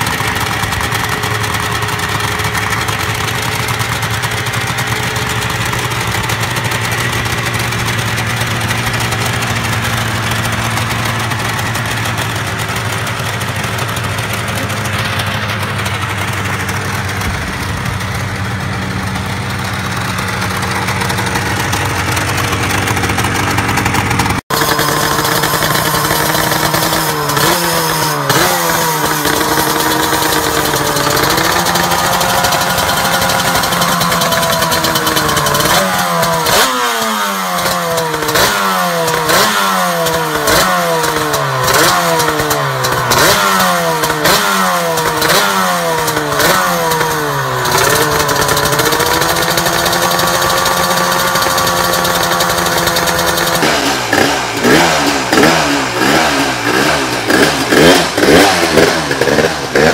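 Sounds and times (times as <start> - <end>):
racing engine revving: 0.0 - 59.9
two-stroke engine idling: 0.0 - 59.9.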